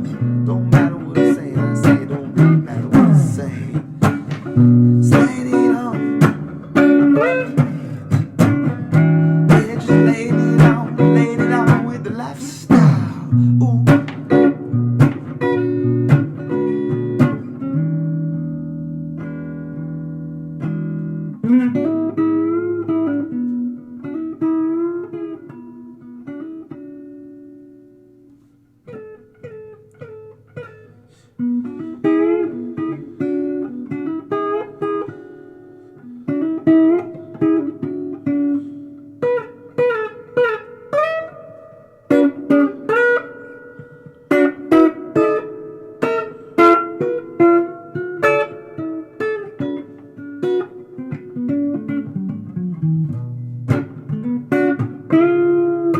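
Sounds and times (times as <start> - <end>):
blues guitar lead: 0.0 - 55.9.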